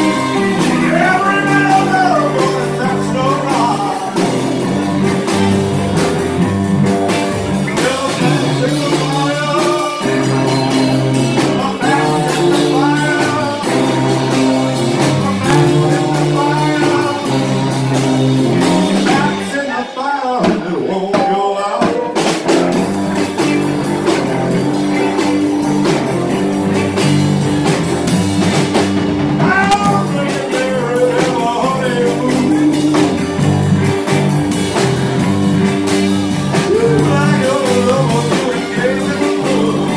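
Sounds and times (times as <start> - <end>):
live band playing: 0.0 - 39.9.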